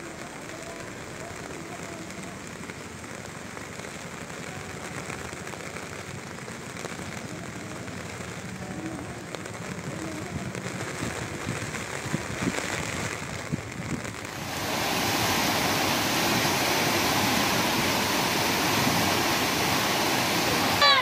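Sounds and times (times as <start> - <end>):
torrent of water rushing: 0.0 - 21.0.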